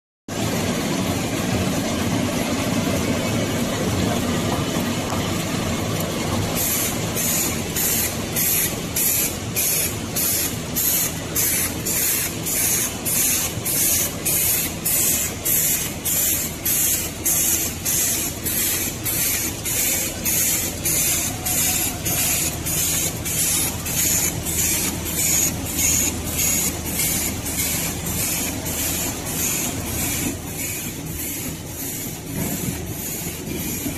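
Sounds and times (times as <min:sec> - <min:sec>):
packaging machine humming: 0:00.3 - 0:33.9.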